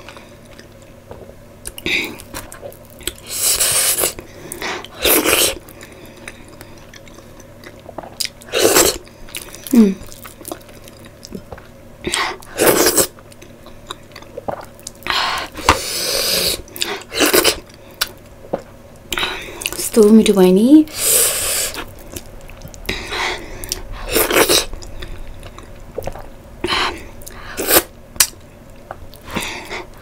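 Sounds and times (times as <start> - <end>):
person chewing: 0.0 - 19.8, 20.9 - 30.0.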